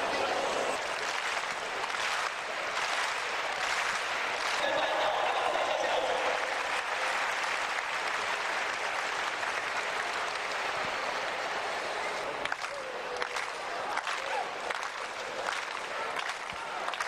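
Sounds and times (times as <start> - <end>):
stadium crowd applauding: 0.0 - 17.0.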